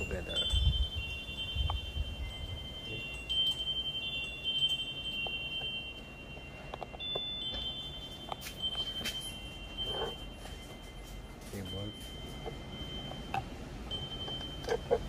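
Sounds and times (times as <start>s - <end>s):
high metallic chiming: 0.0s - 15.0s.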